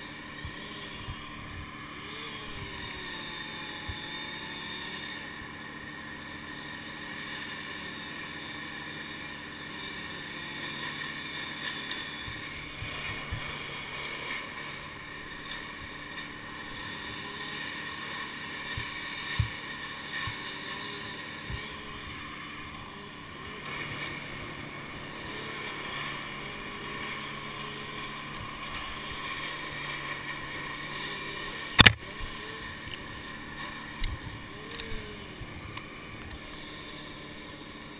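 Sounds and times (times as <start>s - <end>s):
distant engine drone: 0.0s - 37.9s.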